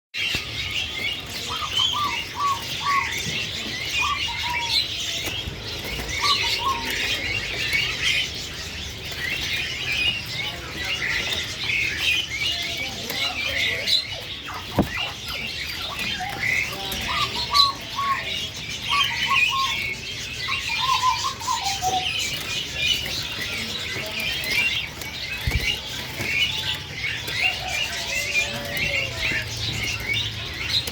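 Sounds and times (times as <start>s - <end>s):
birds chirping: 0.1s - 30.9s.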